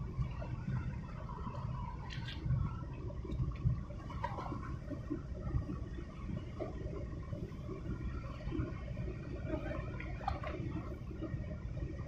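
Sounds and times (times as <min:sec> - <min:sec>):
water splashing and lapping: 0:00.0 - 0:12.0
wind buffeting microphone: 0:00.0 - 0:12.0.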